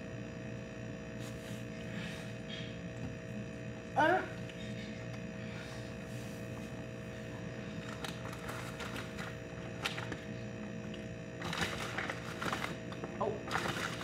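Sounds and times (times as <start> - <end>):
steady room hum: 0.0 - 14.0.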